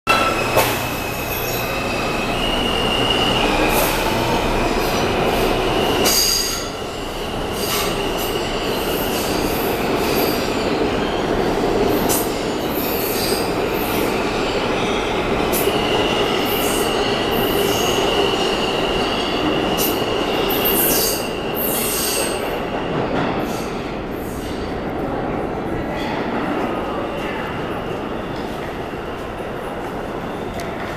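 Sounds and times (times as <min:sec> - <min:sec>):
subway train running: 0:00.1 - 0:30.9.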